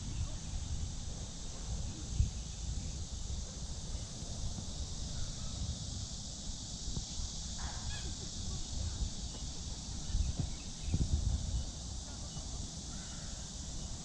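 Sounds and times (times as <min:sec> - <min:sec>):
high-pitched insect drone: 0:00.0 - 0:14.0
wind rumble on microphone: 0:00.0 - 0:14.0.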